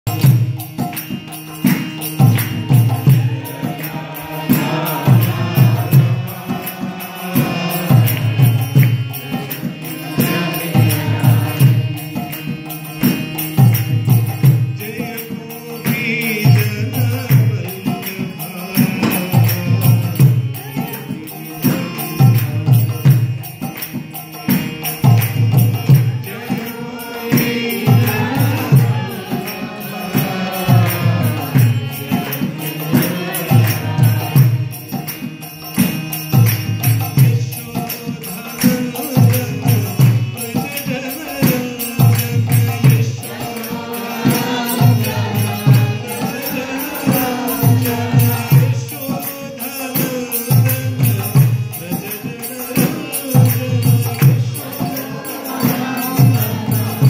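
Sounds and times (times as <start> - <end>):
droning harmonium: 0.0 - 57.0
hand cymbals ticking: 0.1 - 57.0
man singing a devotional chant: 0.1 - 57.0.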